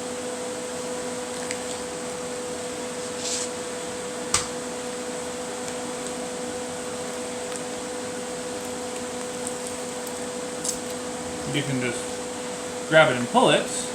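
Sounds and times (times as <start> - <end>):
kitchen appliance hum: 0.0 - 13.9.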